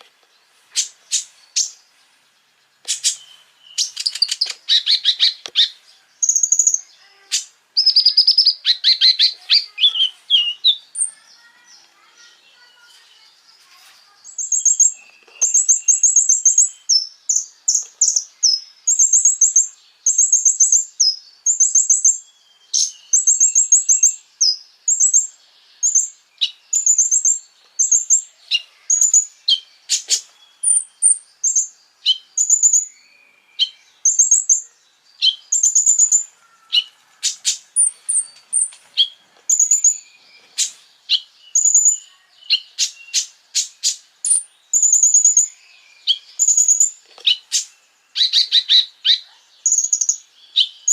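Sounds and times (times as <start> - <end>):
songbird singing high chirps: 0.0 - 50.9
sharp ticking bird notes: 2.4 - 13.3, 14.2 - 50.9.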